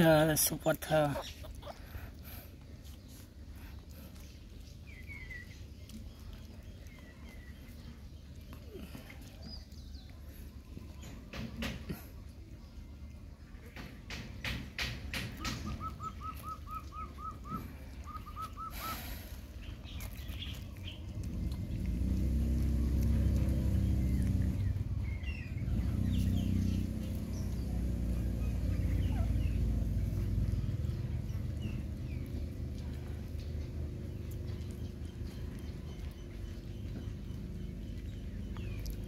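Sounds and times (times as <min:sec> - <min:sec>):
bird chirping: 0:00.0 - 0:02.2, 0:03.0 - 0:11.8, 0:13.6 - 0:21.9, 0:22.5 - 0:39.0.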